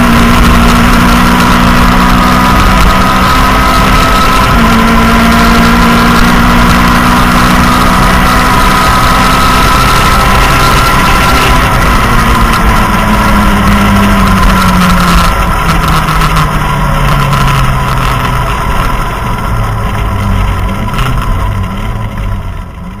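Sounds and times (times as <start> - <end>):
car engine from inside cabin: 0.0 - 23.0
steady high whine: 0.0 - 23.0.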